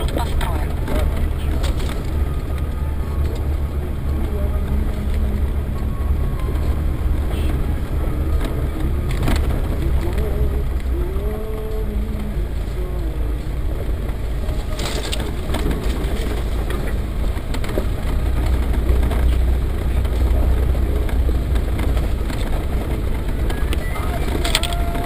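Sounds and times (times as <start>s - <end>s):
car engine rumbling: 0.0s - 25.0s
knocks and rattles over bumps: 0.0s - 25.0s.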